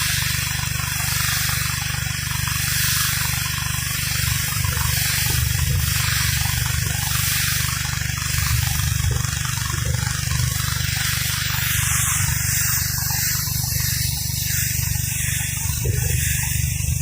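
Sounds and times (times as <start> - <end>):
high-pressure water spray hissing: 0.0 - 17.0
pressure washer engine drone: 0.0 - 17.0.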